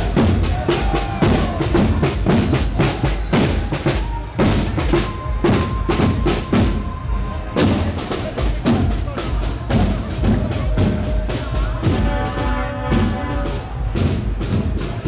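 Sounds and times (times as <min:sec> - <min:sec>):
marching drums playing: 0:00.0 - 0:15.0.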